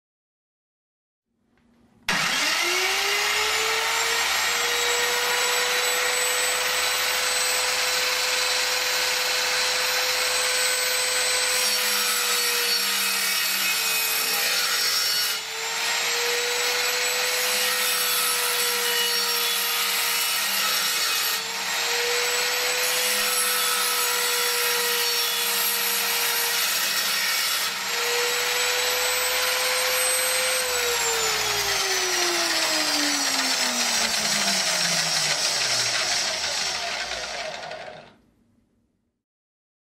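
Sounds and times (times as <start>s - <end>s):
circular saw whining: 2.1s - 38.2s.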